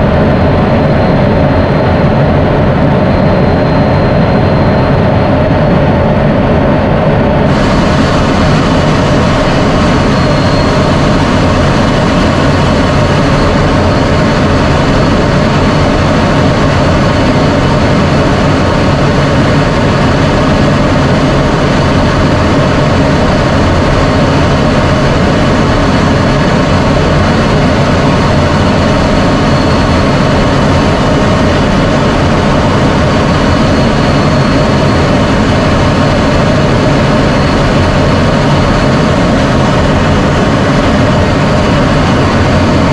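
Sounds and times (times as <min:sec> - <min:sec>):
jet engine noise in cockpit: 0:00.0 - 0:42.9.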